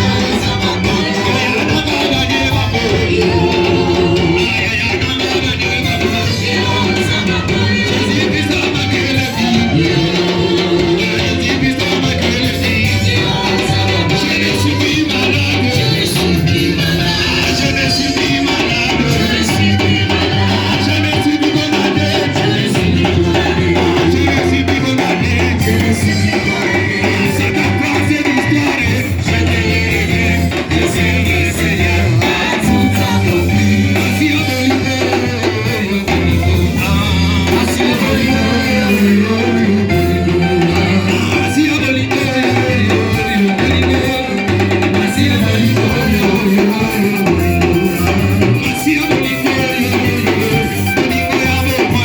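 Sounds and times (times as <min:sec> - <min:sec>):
bass guitar: 0:00.0 - 0:52.0
drum kit beat: 0:00.0 - 0:52.0
electric guitar: 0:00.0 - 0:52.0
singing: 0:00.0 - 0:52.0.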